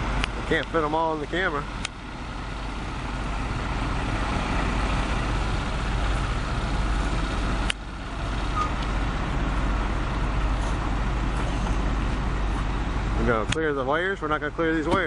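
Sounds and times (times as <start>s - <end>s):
heavy truck engine rumble: 0.0s - 15.0s
road noise: 0.0s - 15.0s.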